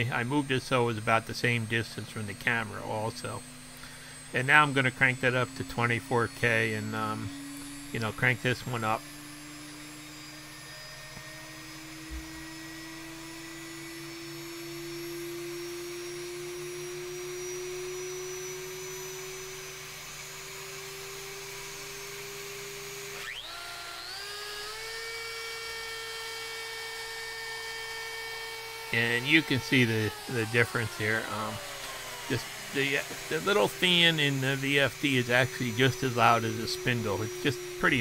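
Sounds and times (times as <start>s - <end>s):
router motor whining: 0.0s - 38.0s.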